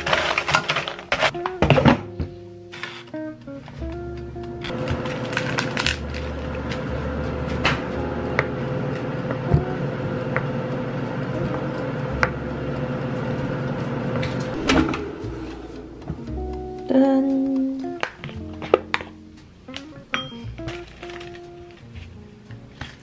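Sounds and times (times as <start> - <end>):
steady background hum: 0.0 - 20.1.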